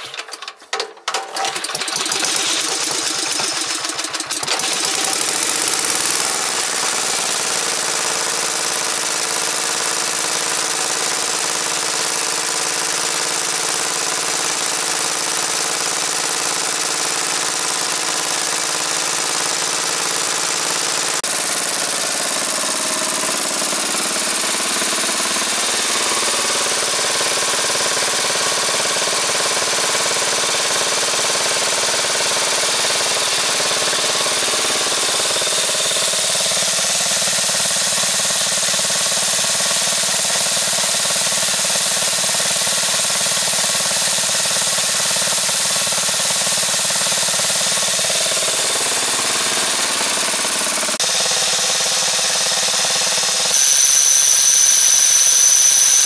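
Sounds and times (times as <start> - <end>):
mower petrol engine running: 0.0 - 56.0.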